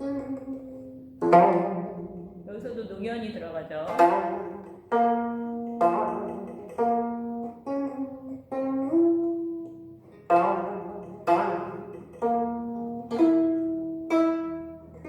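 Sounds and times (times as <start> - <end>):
plucked zither notes bending: 0.0 - 15.0.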